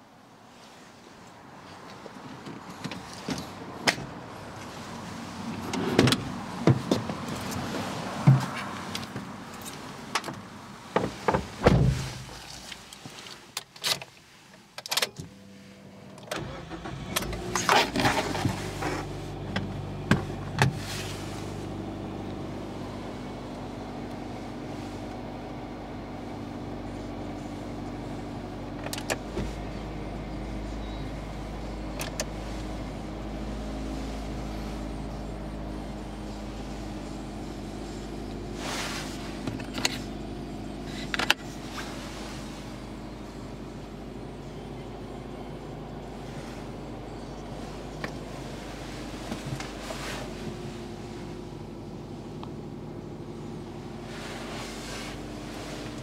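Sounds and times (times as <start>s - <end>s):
car engine starting and idling: 2.0s - 56.0s.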